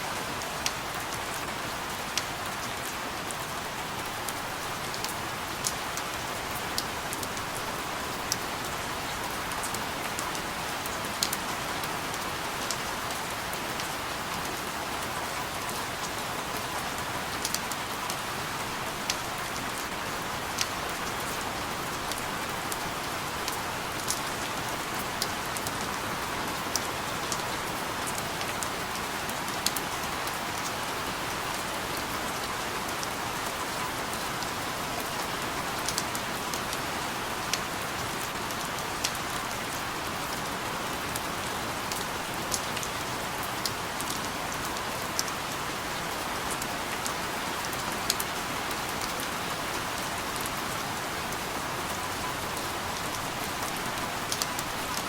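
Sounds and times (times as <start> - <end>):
rain on a hard surface: 0.0 - 55.0.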